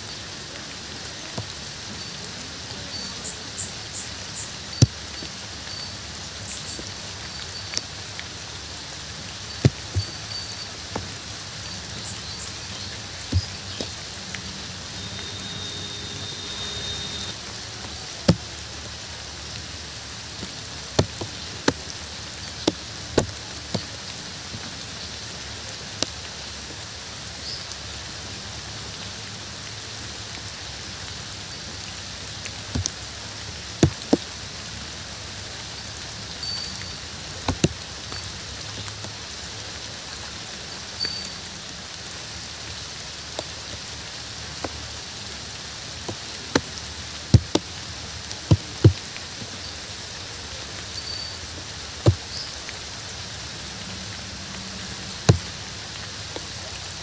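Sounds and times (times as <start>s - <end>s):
loud sharp drips: 0.0s - 26.7s, 27.4s - 41.7s, 42.4s - 57.0s
steady rain falling: 0.0s - 57.0s.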